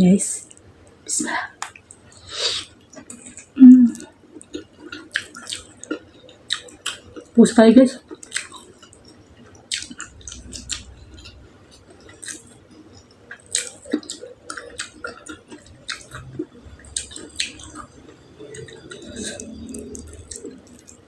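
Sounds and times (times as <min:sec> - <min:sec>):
wet chewing and lip smacking: 0:02.8 - 0:07.4, 0:08.0 - 0:21.0.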